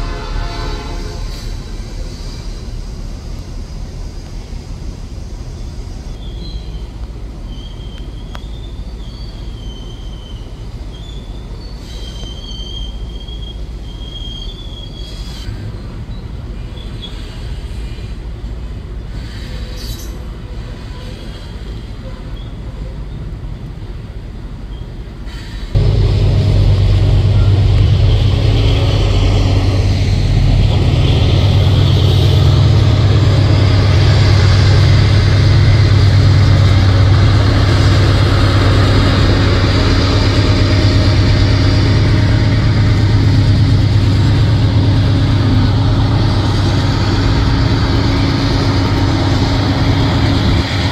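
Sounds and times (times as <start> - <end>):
diesel locomotive engine drone: 0.0 - 50.9
freight cars rumbling on rails: 0.0 - 50.9.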